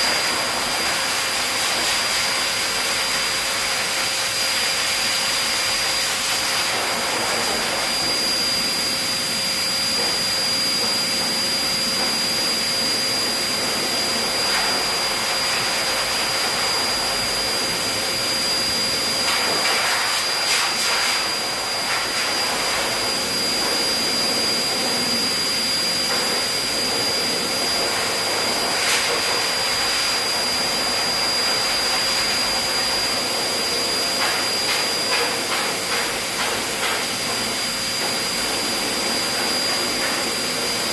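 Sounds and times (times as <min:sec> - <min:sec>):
dog dryer blowing with motor whine: 0:00.0 - 0:40.9.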